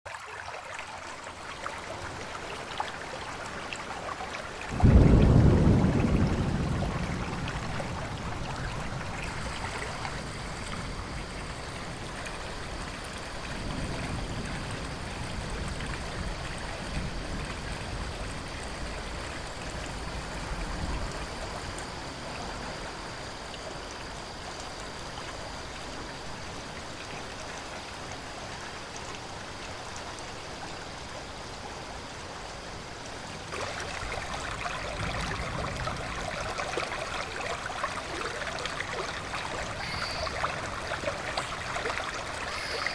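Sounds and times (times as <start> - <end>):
stream water rushing and gurgling: 0.1 - 42.9.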